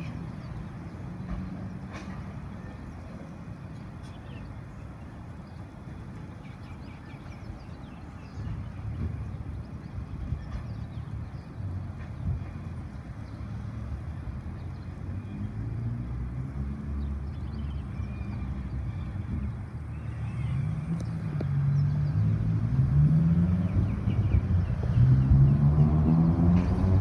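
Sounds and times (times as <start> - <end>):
engine approaching: 0.0 - 27.0.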